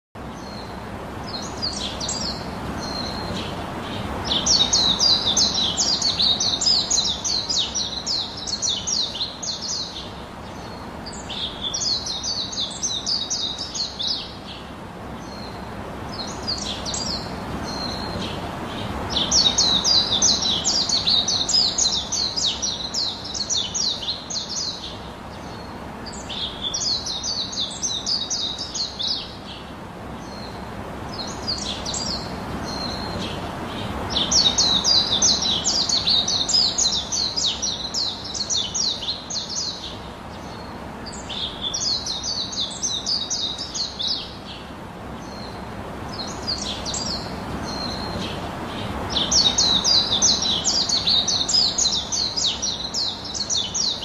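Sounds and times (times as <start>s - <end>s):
birds chirping rapidly: 0.2s - 54.0s.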